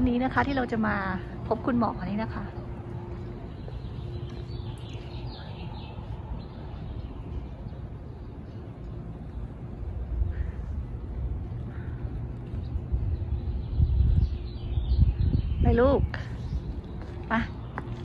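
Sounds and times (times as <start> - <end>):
low street rumble: 0.0 - 18.0.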